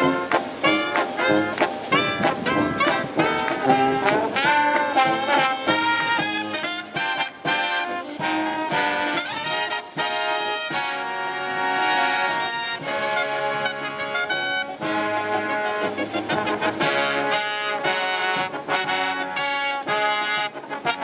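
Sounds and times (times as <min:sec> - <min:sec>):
marching brass band playing: 0:00.0 - 0:21.0
snare drum: 0:00.0 - 0:21.0.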